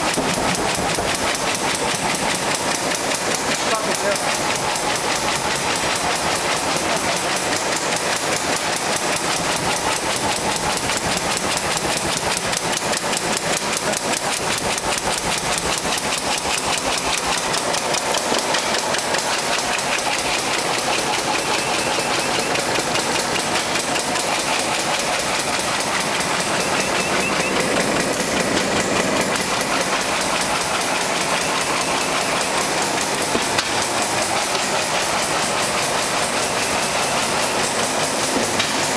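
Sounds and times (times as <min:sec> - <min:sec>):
bag-making machine clattering: 0:00.0 - 0:38.9.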